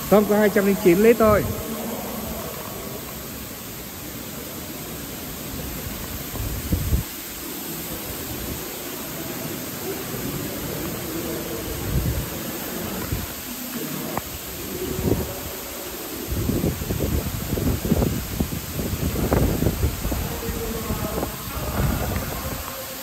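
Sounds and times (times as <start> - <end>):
water mist spray hissing: 0.0 - 23.0.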